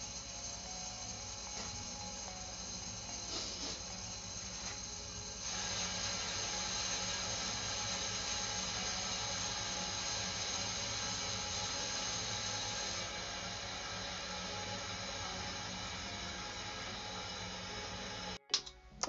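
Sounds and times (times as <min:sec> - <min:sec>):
water hissing through pipes: 0:00.0 - 0:18.4.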